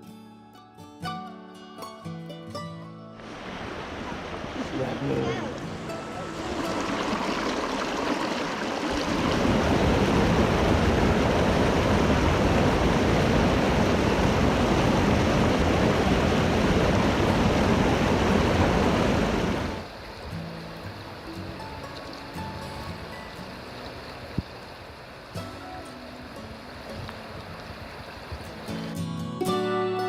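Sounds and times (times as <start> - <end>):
mountain stream rushing: 3.2 - 29.8.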